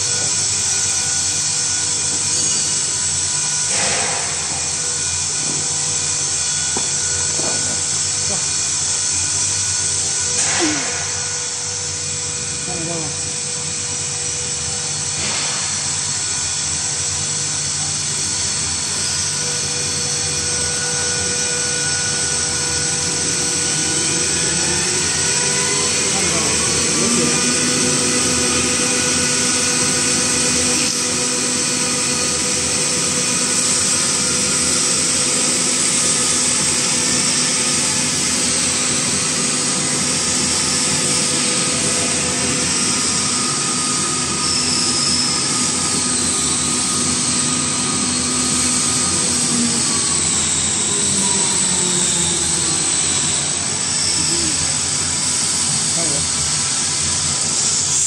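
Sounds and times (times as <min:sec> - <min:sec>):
mixer machine drone: 0:00.0 - 0:58.0.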